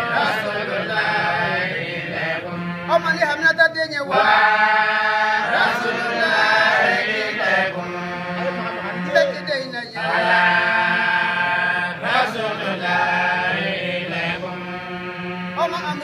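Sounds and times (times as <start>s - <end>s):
devotional chant singing: 0.0s - 16.0s.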